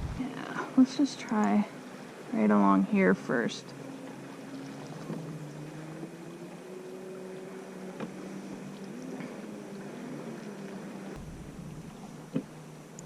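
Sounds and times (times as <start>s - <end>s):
boat hum: 0.0s - 13.0s.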